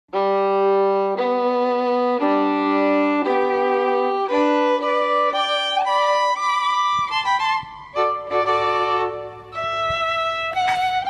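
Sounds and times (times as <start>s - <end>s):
melody of long held notes: 0.1s - 11.0s.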